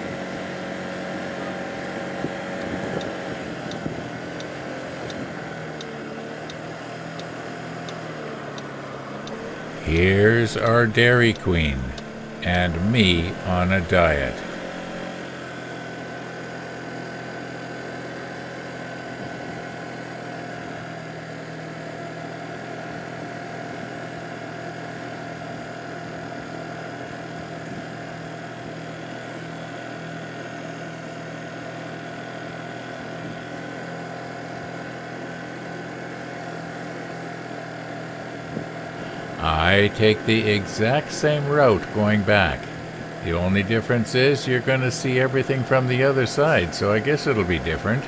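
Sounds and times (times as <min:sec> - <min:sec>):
scooter engine running: 0:00.0 - 0:48.0.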